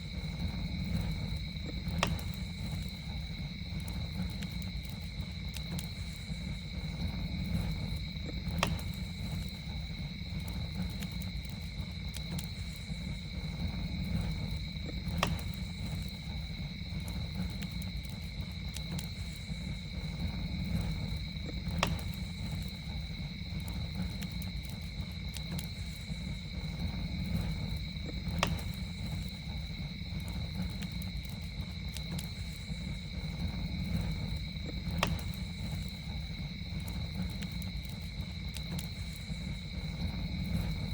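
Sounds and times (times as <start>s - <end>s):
campfire burning and popping: 0.0s - 40.9s.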